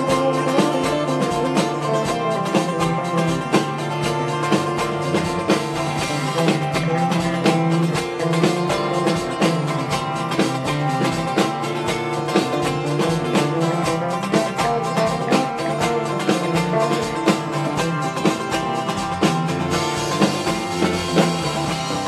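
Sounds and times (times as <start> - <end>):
acoustic guitar: 0.0 - 22.0
electric bass: 0.0 - 22.0
steady drum beat: 0.0 - 22.0.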